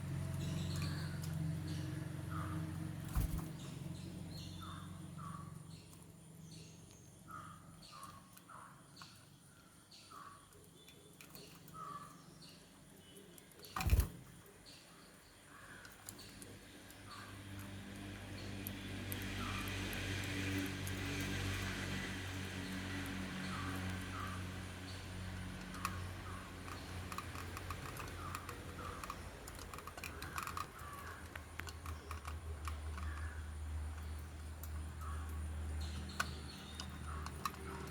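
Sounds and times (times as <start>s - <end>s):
lovebirds chirping: 0.0s - 17.4s, 23.5s - 37.9s.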